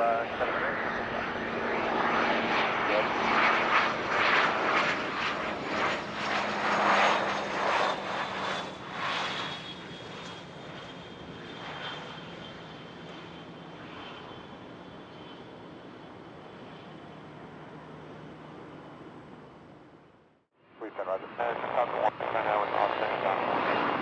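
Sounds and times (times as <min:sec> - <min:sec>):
airplane engine rushing past: 0:00.0 - 0:24.0.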